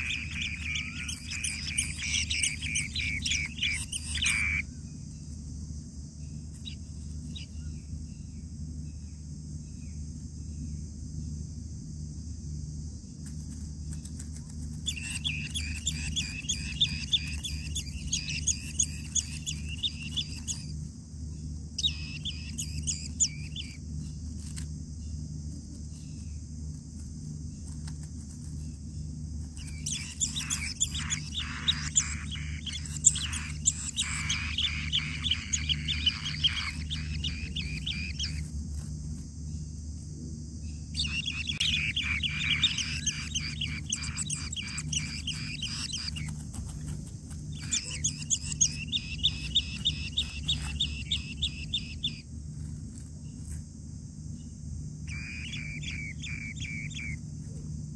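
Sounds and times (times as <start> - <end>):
nestlings chirping: 0.0 - 11.4, 13.0 - 57.9
steady low hum: 0.0 - 57.9.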